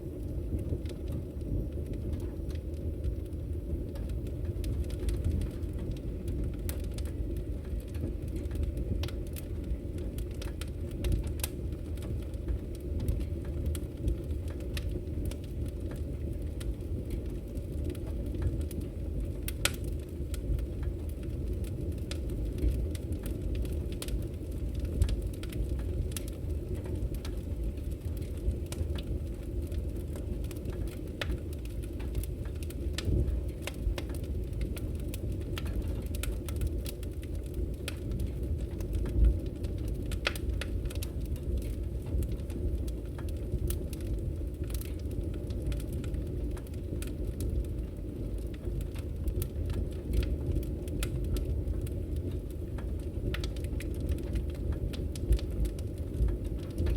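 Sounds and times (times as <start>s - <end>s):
low roar of flame: 0.0s - 56.9s
wood fire crackling and popping: 0.0s - 56.9s.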